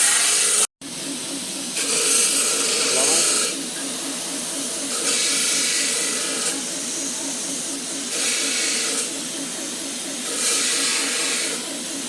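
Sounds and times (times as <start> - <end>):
machine running rhythmically: 0.5 - 12.0.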